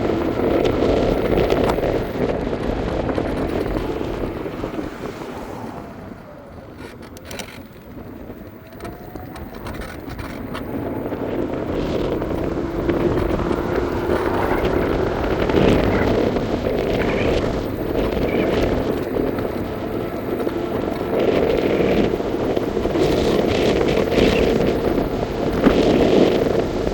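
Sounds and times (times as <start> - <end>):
faint whining tones: 0.0 - 26.9
scooter wheels rumbling on pavement: 0.0 - 26.9
wind on microphone: 0.0 - 26.9.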